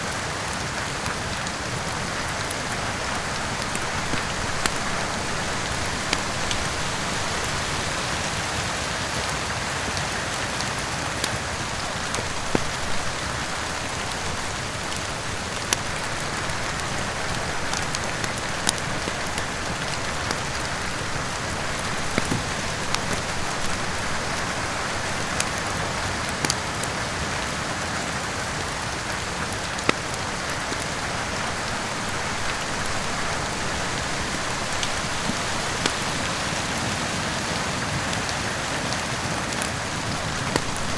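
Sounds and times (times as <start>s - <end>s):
steady rain: 0.0s - 40.9s
wood fire popping and crackling: 0.0s - 40.9s.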